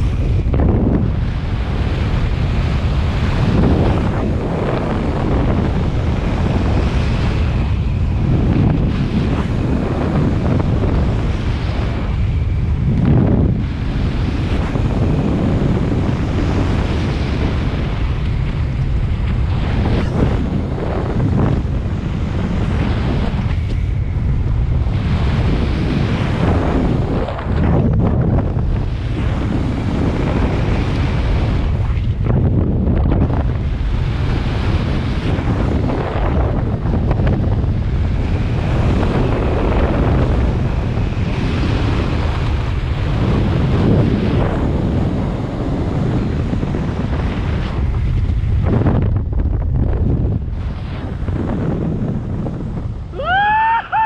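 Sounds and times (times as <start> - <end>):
strong wind buffeting microphone: 0.0 - 54.0.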